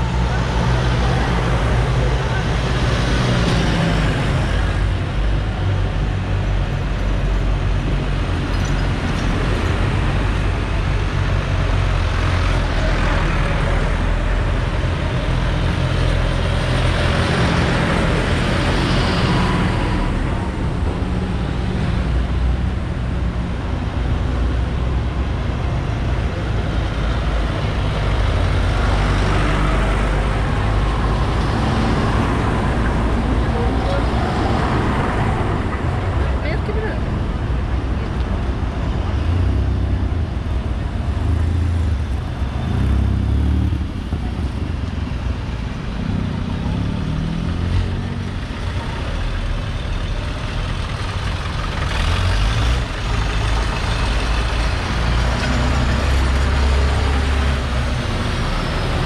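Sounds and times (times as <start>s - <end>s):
tractor diesel engines passing: 0.0s - 59.0s.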